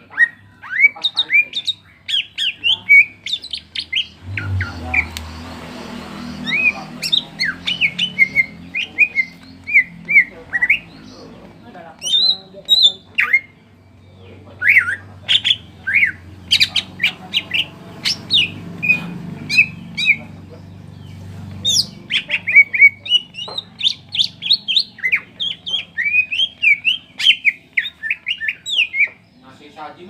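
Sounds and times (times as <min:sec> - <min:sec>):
songbird chirping and whistling: 0:00.0 - 0:29.4.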